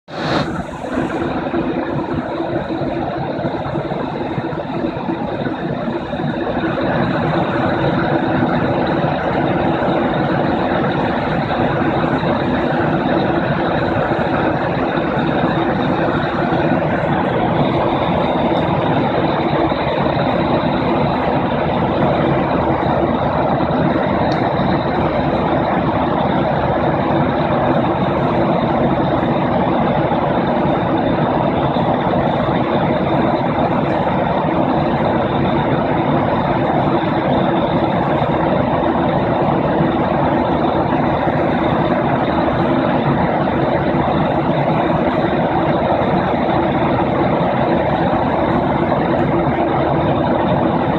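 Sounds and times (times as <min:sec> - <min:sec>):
aeroplane engine noise: 0:00.0 - 0:50.9
steady low hum: 0:00.1 - 0:50.9.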